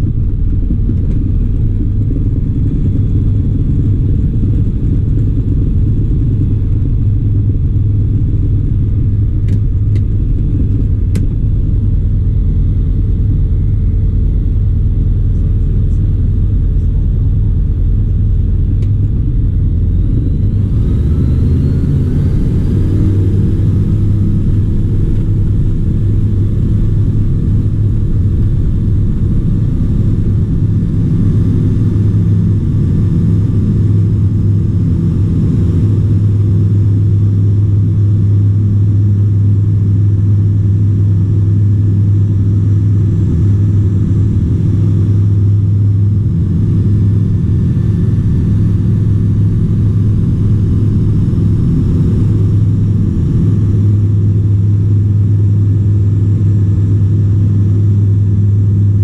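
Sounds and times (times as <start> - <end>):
aircraft engine and propeller drone: 0.0 - 59.0.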